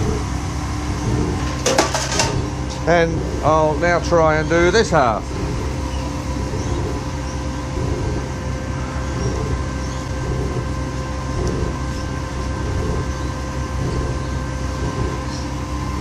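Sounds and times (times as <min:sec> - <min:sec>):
gas burners roaring: 0:00.0 - 0:16.0
steady hum: 0:00.0 - 0:16.0.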